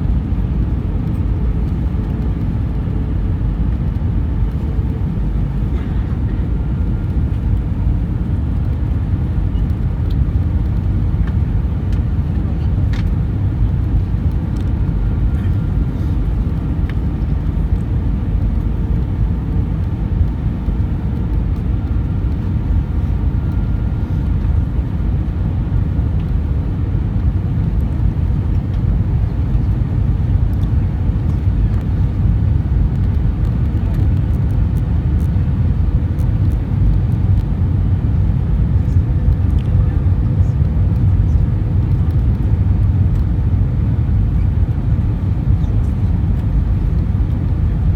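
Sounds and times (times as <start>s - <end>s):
airplane cabin engine rumble: 0.0s - 47.9s
faint steady whine: 0.0s - 47.9s.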